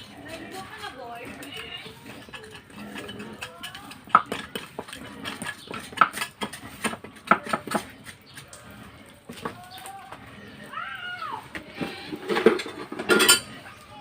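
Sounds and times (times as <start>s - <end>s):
metal utensils clinking and knocking: 0.0s - 10.6s, 11.5s - 13.9s.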